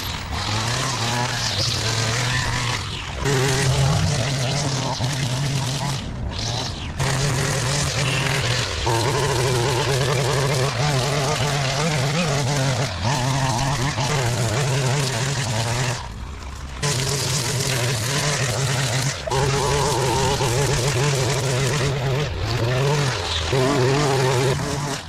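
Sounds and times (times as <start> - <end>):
small petrol engine running: 0.0 - 25.0.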